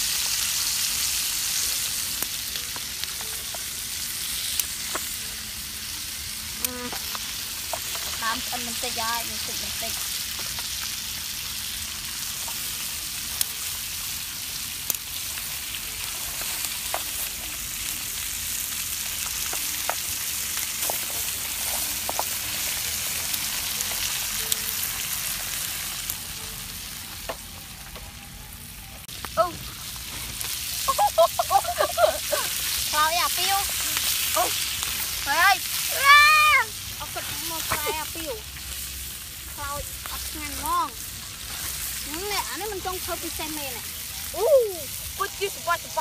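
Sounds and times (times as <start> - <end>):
fish sizzling on hot metal: 0.0 - 46.0.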